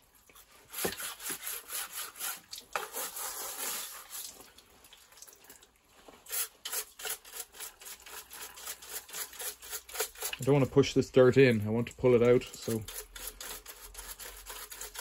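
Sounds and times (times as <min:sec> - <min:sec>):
brush scrubbing metal fins: 0:00.3 - 0:04.6, 0:06.0 - 0:15.0.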